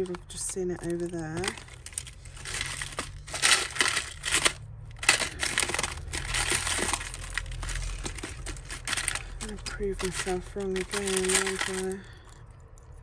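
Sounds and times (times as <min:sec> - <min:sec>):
plastic tub rattling: 0:00.0 - 0:12.1
jewellery clinking and jangling: 0:00.0 - 0:12.4.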